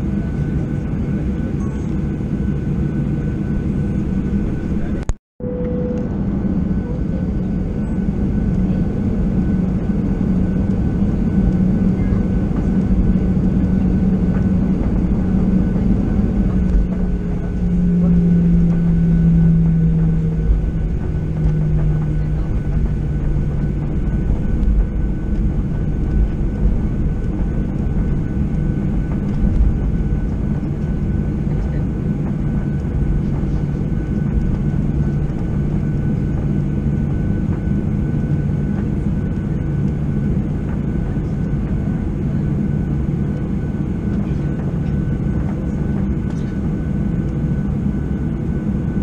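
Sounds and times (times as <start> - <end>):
jet engine drone with whine: 0.0 - 49.0.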